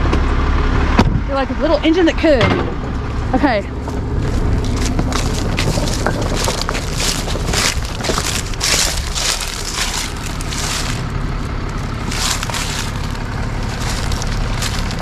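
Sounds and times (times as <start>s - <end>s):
vehicle engine running low: 0.0s - 15.0s
tyres crunching over gravel: 2.6s - 15.0s.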